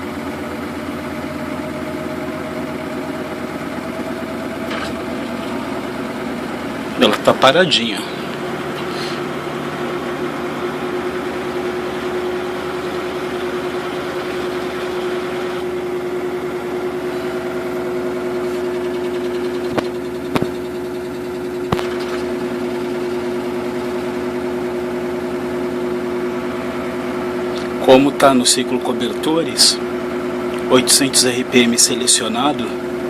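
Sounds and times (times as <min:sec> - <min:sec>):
washing machine spinning: 0:00.0 - 0:33.0.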